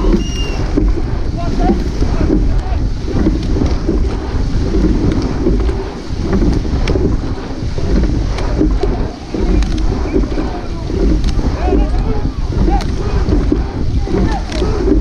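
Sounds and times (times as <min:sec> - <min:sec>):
faint clicks: 0:00.0 - 0:15.0
wind buffeting microphone: 0:00.0 - 0:15.0.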